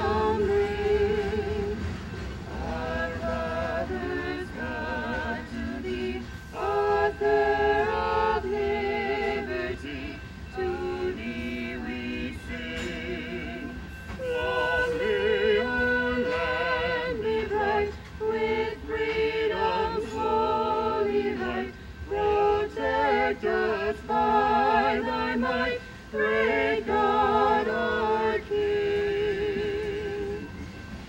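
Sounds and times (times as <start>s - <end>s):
people singing a cappella: 0.0s - 30.9s.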